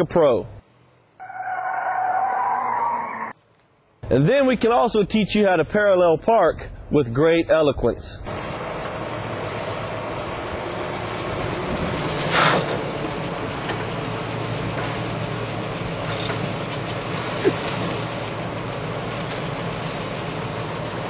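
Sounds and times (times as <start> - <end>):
road noise: 0.0 - 21.0.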